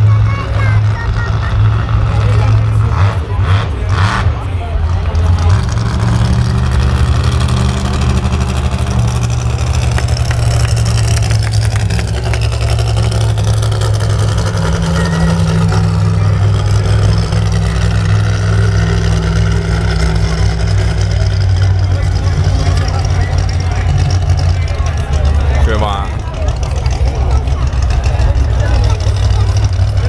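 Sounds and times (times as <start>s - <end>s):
monster truck engine running: 0.0s - 30.0s.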